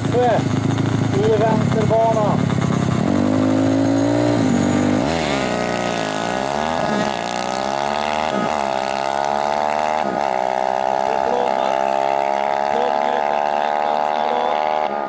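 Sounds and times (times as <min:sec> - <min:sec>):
two-stroke moped engines revving: 0:00.0 - 0:15.0.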